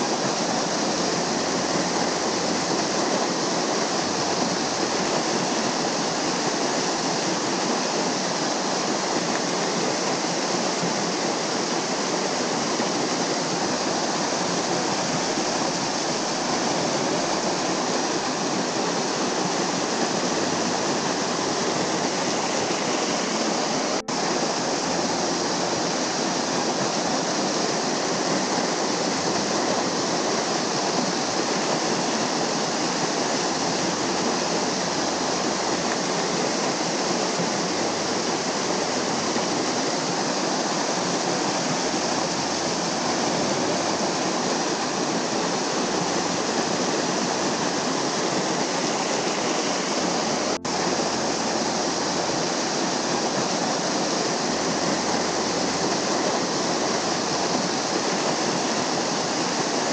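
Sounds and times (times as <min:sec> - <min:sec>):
waterfall splashing onto rocks: 0:00.0 - 0:59.9.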